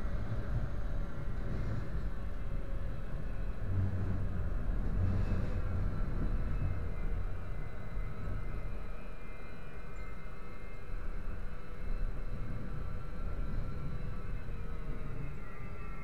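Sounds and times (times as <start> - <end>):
faint high whining tones: 0.0 - 16.0
tram wheels rumbling: 0.0 - 16.0.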